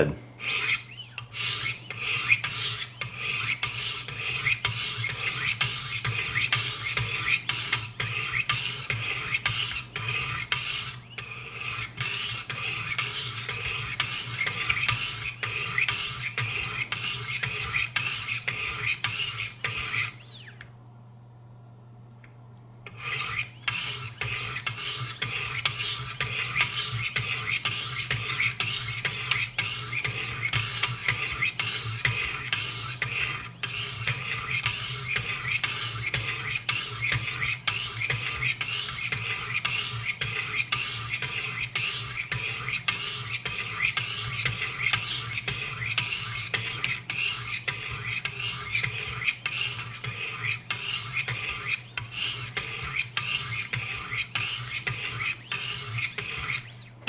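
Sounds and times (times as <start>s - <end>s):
stones rasping on knife edge: 0.4s - 20.2s, 22.9s - 56.8s.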